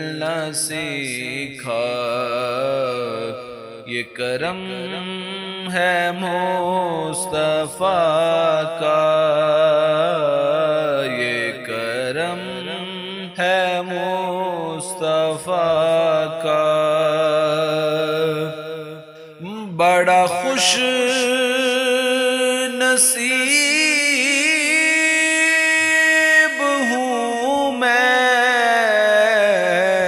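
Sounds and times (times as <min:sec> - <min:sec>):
person singing ornamented melody: 0:04.0 - 0:18.6, 0:19.3 - 0:30.0.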